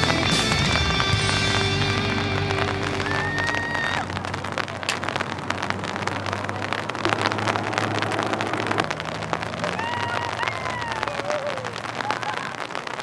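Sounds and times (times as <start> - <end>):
rain on wet ground: 0.0 - 13.0.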